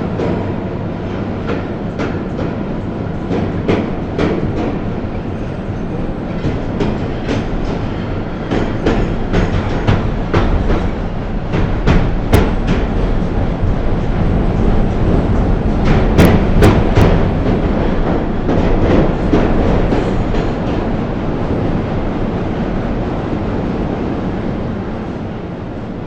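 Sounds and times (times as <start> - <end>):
wheels clacking over rail joints: 0.0 - 22.5
train rumbling on rails: 0.0 - 26.0.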